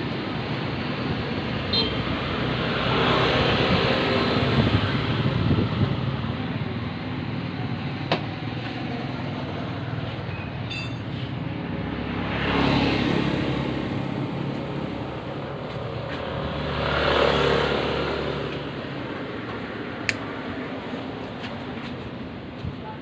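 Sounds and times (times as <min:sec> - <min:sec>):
vehicles passing: 0:00.0 - 0:23.0.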